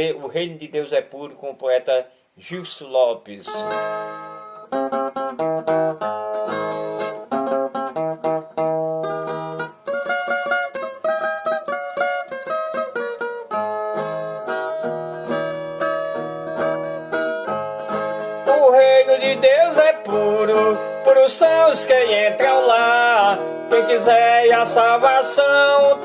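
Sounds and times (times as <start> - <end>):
plucked steel-string guitar melody: 3.4 - 26.0.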